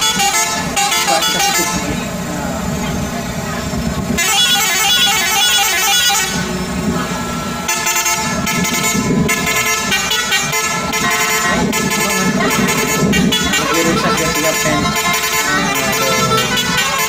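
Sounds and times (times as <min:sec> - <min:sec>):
lorry musical air horns tooting: 0:00.0 - 0:17.0.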